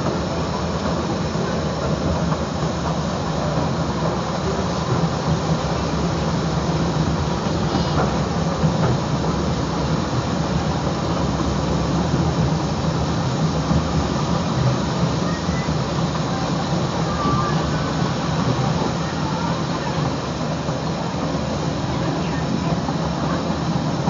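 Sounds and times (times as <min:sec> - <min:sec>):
steam train running: 0:00.0 - 0:24.0.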